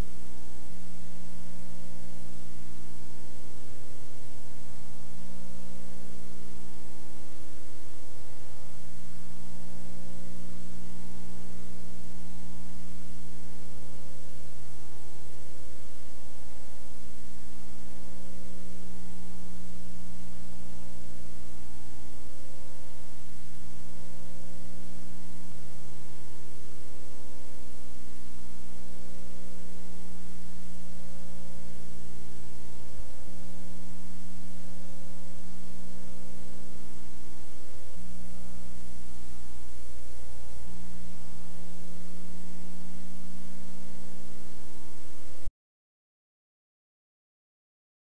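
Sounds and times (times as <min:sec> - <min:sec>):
electrical hum: 0:00.0 - 0:45.5.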